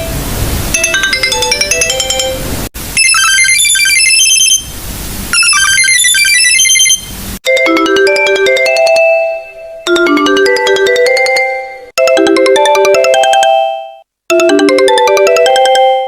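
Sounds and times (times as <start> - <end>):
electronic phone ringtone: 0.8 - 2.4, 3.0 - 4.7, 5.4 - 16.0
higher-pitched phone ringtone: 0.8 - 2.4, 3.0 - 4.7, 5.4 - 16.0.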